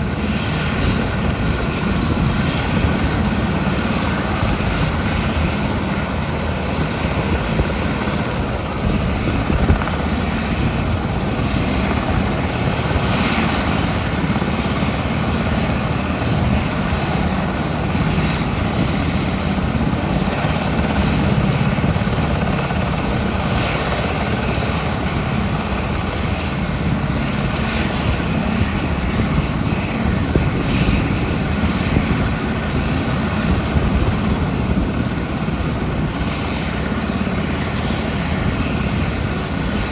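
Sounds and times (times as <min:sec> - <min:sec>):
helicopter rotors and engines droning: 0:00.0 - 0:39.9.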